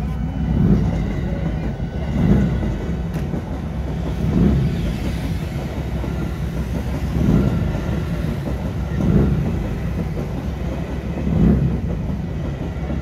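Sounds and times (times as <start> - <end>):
electric train rumbling on rails: 0.0 - 13.0.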